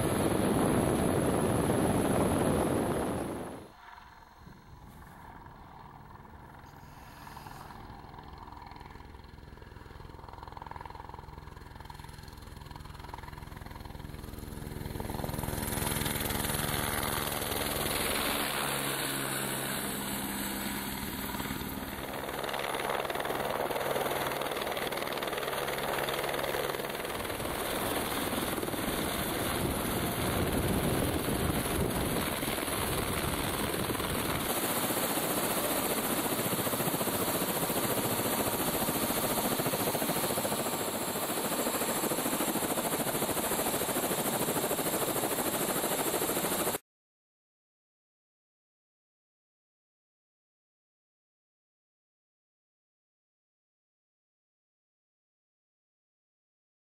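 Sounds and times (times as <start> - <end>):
helicopter landing: 0.0 - 46.8.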